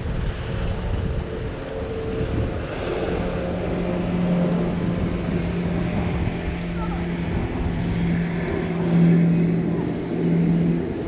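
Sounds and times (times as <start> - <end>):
low engine drone: 0.0 - 11.0
wind buffeting microphone: 0.0 - 11.0.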